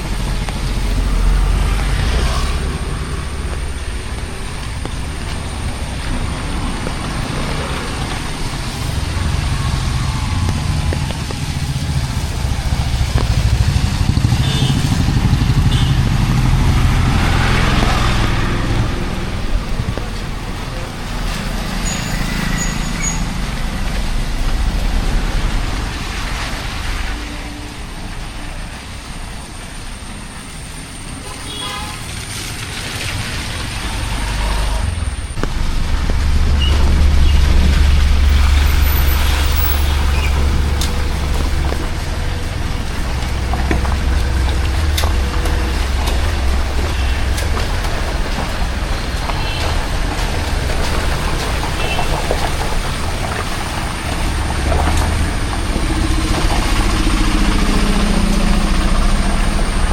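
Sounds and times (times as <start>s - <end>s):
road traffic passing: 0.0s - 59.9s
vehicle engine rumbling: 0.0s - 59.9s.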